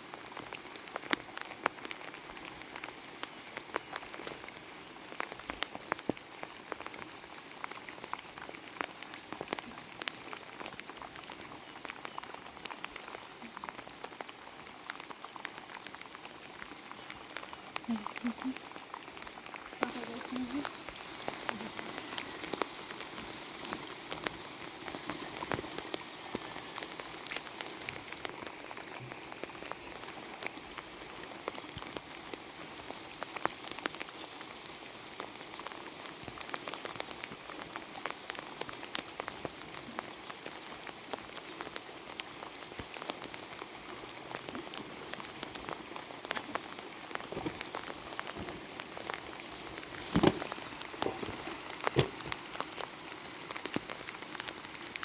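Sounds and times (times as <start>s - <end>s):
steady rain pattering: 0.0s - 55.0s.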